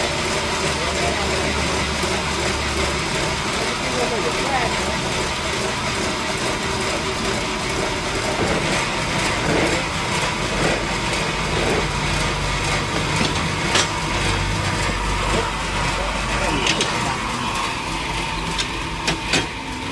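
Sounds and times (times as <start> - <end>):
sawmill engine humming: 0.0 - 19.9.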